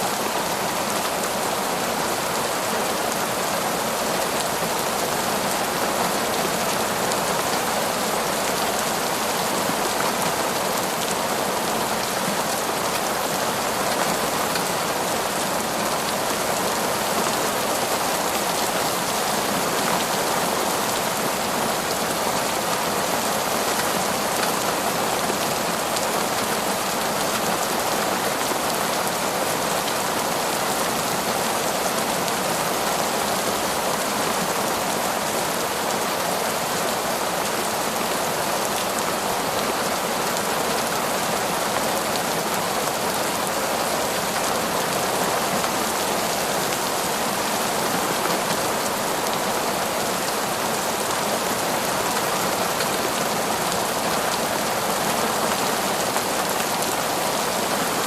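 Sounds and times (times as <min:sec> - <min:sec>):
heavy rain on foliage: 0:00.0 - 0:58.0.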